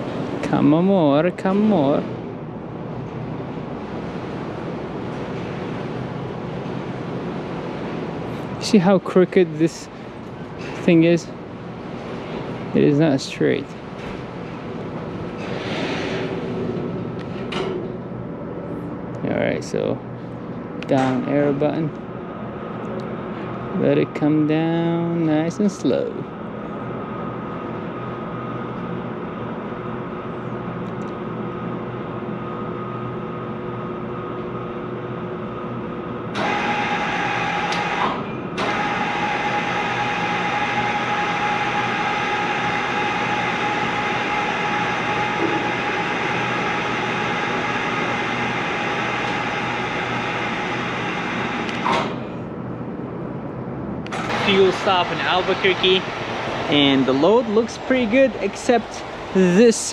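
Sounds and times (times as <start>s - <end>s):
crane motors humming: 0.0s - 59.9s.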